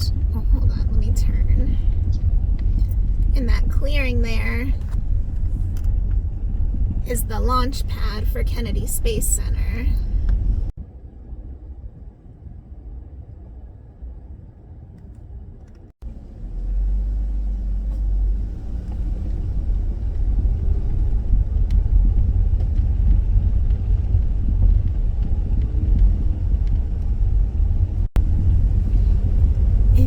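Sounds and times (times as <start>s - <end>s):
road and engine noise in car: 0.0s - 30.0s.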